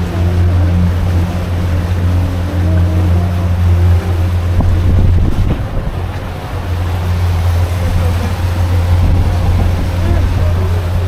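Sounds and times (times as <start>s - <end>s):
outboard motor droning: 0.0s - 11.0s
wind noise on microphone: 0.0s - 11.0s.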